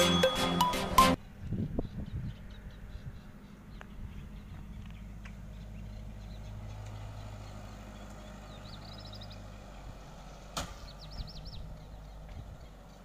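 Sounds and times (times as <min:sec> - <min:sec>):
bird chirping: 0:00.0 - 0:13.0
distant tractor engine running: 0:00.0 - 0:13.0.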